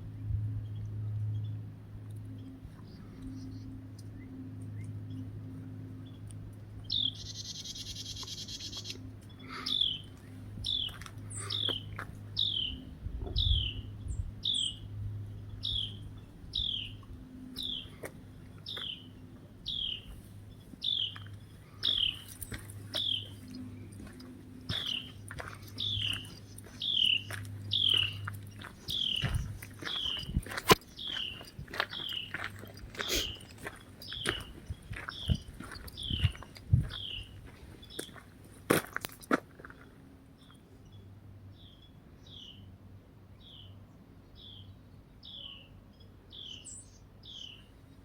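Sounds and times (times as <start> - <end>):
songbird chirping: 0.6 - 42.7.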